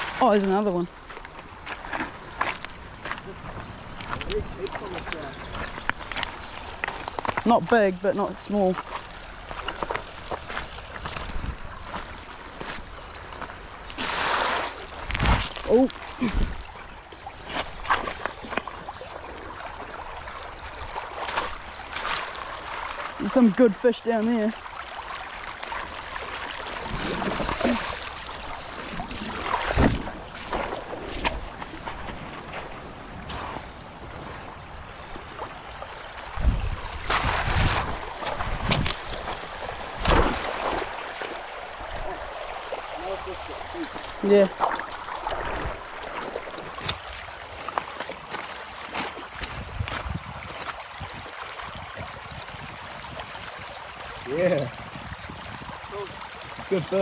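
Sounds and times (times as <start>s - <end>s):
river flowing over stones: 0.0s - 57.0s
stream rushing: 0.0s - 57.0s
water splashing from wading: 0.0s - 57.0s.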